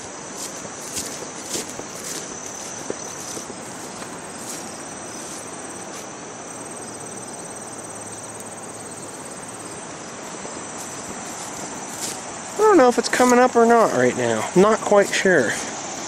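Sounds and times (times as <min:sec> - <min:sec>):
insects trilling: 0:00.0 - 0:16.0
steady hiss: 0:00.0 - 0:16.0.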